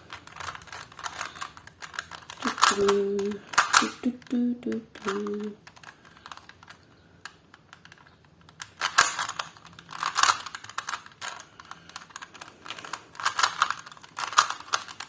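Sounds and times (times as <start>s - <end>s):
puzzle cube clicking: 0.0s - 15.0s.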